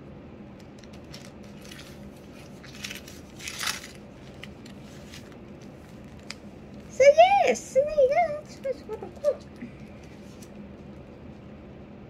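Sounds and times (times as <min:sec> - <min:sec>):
plastic sleeves rustling: 0:00.6 - 0:11.1.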